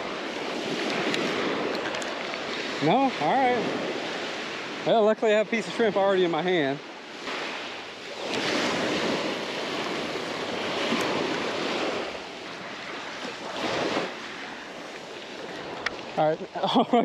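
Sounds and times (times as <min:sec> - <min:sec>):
wind on microphone: 0:00.0 - 0:16.2
surf waves breaking on sand: 0:00.0 - 0:17.0.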